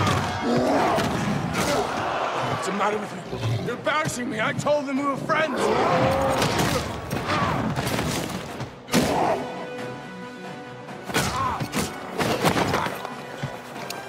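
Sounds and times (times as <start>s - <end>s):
film score music: 0.0s - 14.0s.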